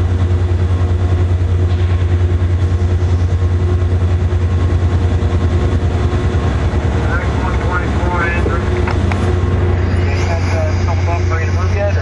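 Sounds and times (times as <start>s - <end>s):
diesel locomotive engine idling: 0.0s - 12.0s.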